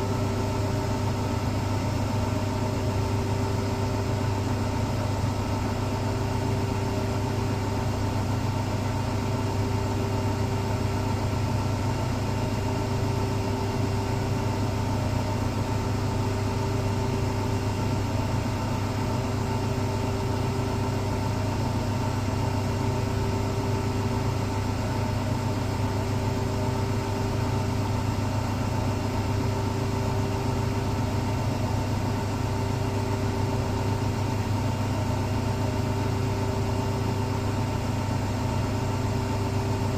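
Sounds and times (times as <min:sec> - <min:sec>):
laundry machine humming: 0:00.0 - 0:39.9
laundry machine whine: 0:00.0 - 0:39.9.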